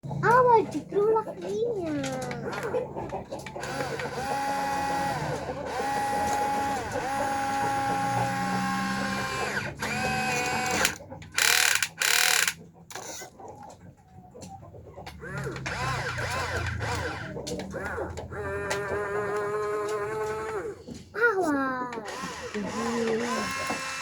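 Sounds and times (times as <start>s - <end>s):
toy excavator motors whining: 0.2s - 24.0s.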